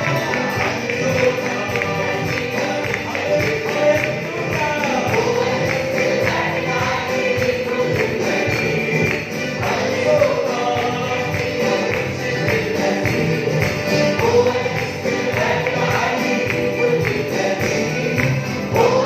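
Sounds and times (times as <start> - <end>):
steady percussive beat: 0.0 - 19.0
voices singing together: 0.0 - 19.0.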